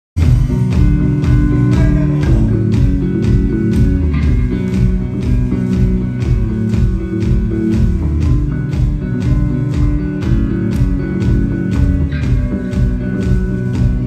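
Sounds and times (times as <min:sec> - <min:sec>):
live rock band playing: 0:00.2 - 0:14.0.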